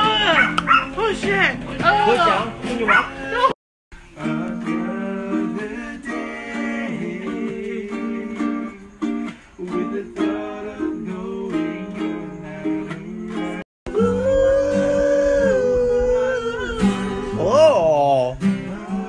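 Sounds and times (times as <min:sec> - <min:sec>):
acoustic string instrument strumming: 0:00.0 - 0:19.0.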